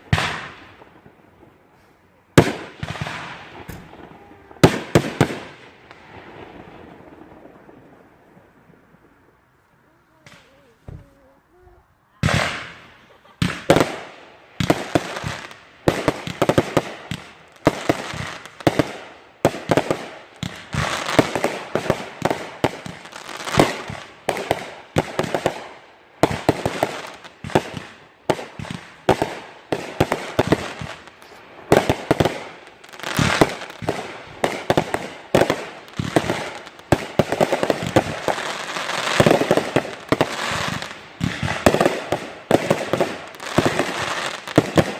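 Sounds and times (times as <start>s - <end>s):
fireworks bangs: 0.0s - 44.9s.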